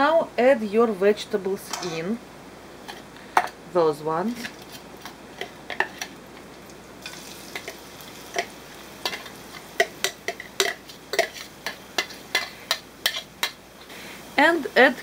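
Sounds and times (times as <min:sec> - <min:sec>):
faint sizzle in hot fat: 0:00.0 - 0:15.0.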